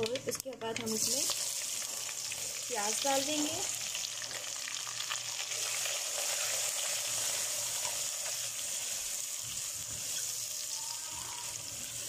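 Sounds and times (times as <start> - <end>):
onions sizzling in hot oil: 0.8 - 12.0.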